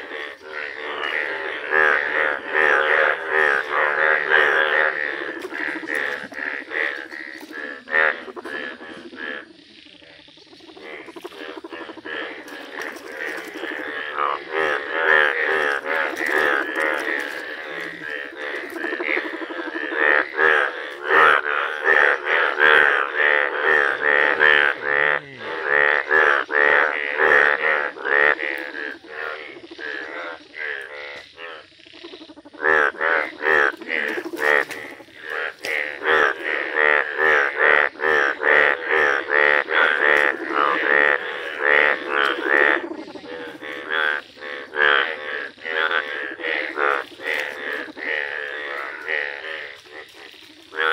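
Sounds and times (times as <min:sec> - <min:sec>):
bullfrogs croaking: 0:00.0 - 0:50.9.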